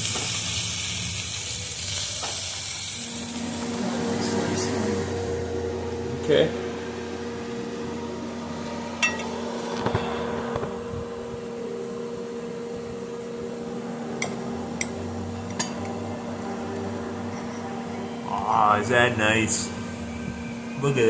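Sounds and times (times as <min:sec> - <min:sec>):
steady electric hum: 0:00.0 - 0:21.0.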